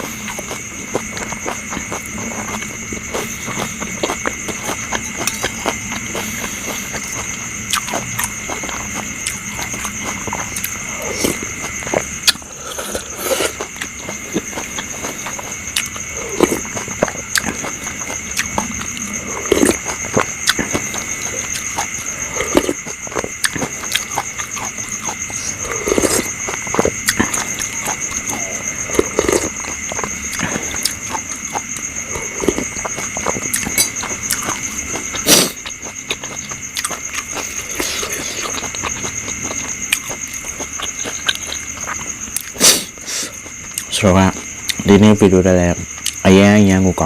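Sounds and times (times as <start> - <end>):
mouth chewing food: 0.0 - 46.6
night insects trilling: 0.0 - 47.0.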